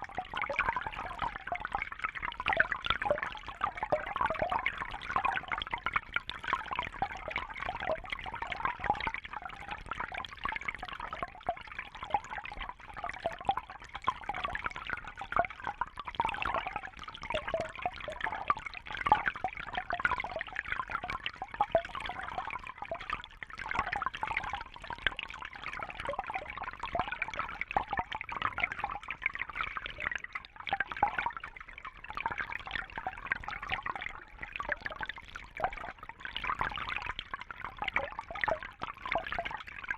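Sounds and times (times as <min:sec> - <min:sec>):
water trickling and bubbling: 0:00.0 - 0:39.9.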